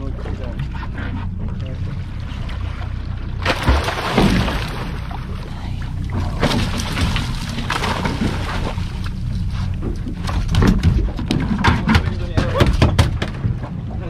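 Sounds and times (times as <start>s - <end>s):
boat engine running: 0.0s - 14.0s
water splashing against hull: 0.0s - 14.0s.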